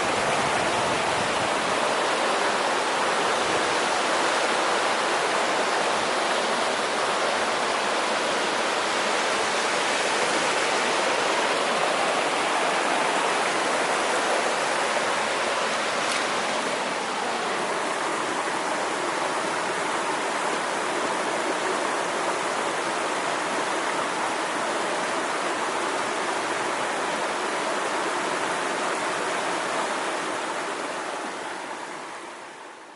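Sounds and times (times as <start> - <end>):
stream water rushing: 0.0 - 32.9.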